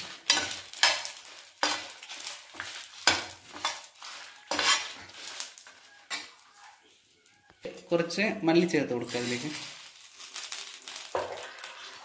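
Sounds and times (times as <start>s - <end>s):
spoon scraping chillies in a pan: 0.0s - 7.1s, 9.0s - 12.0s.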